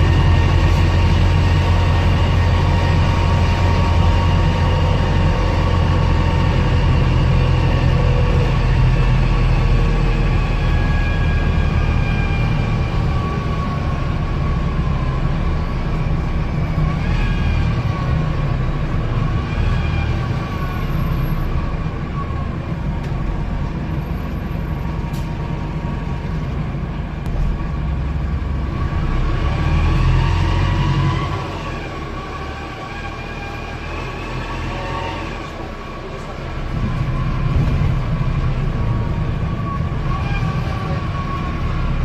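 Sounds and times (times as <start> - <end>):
bus engine rumble: 0.0 - 42.0.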